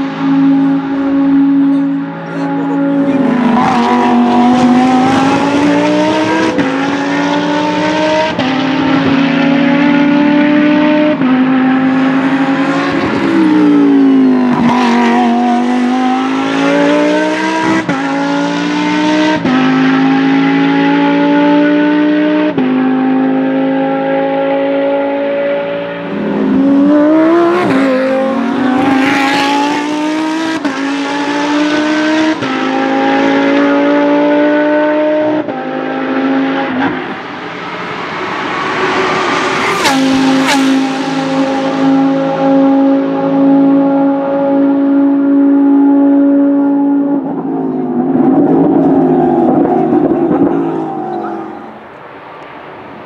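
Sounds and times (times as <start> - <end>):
race car engine accelerating: 0.0 - 52.0.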